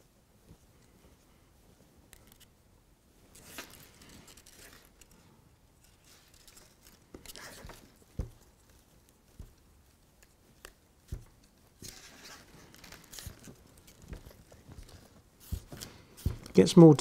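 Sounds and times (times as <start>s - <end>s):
wire strands scratching and rustling: 0.0s - 17.0s.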